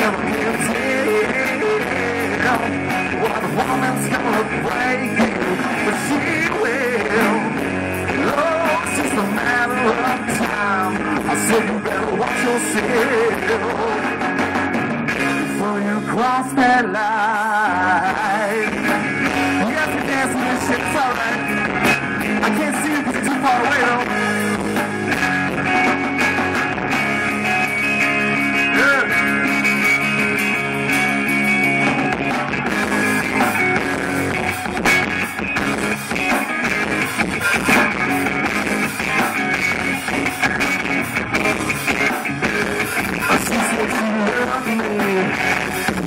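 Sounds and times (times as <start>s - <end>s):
bass guitar: 0.0s - 46.0s
drum kit: 0.0s - 46.0s
electric guitars: 0.0s - 46.0s.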